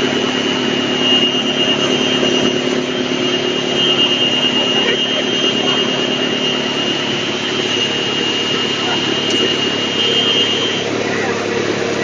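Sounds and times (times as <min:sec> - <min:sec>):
wood chipper drone with whine: 0:00.0 - 0:12.0.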